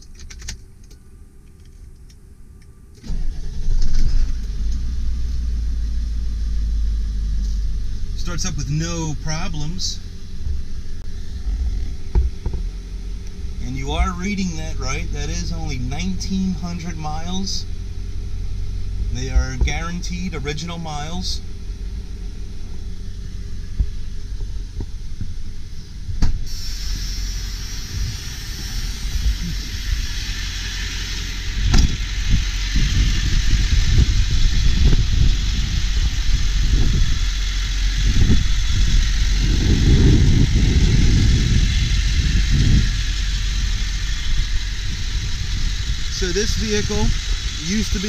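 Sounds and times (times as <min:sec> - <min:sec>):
diesel engine idling: 0:03.0 - 0:48.0
low thumps and rumbles: 0:03.6 - 0:48.0.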